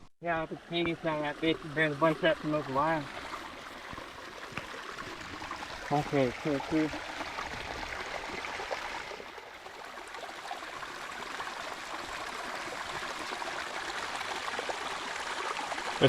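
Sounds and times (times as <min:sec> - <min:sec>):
spring water running and splashing: 0:00.3 - 0:16.0.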